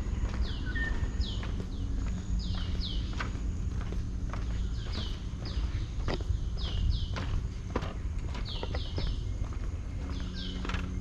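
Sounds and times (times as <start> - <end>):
footsteps on a trail: 0.0 - 11.0.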